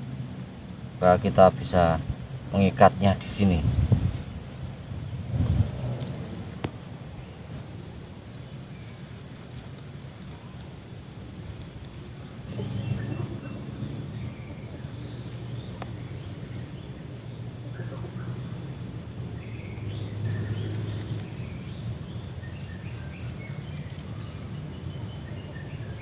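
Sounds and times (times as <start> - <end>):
steady low hum: 0.0 - 26.0
birds chirping: 0.4 - 3.6, 6.3 - 26.0.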